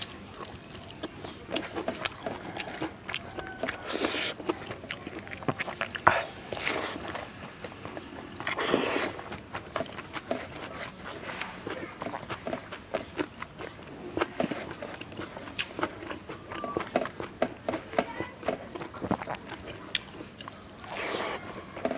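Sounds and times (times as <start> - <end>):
wet chewing and lip smacks: 0.0 - 21.9.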